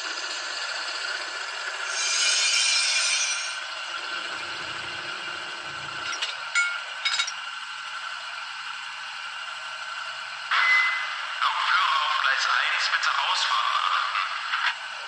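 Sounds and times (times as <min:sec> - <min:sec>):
model locomotive diesel engine sound: 0:00.0 - 0:15.0.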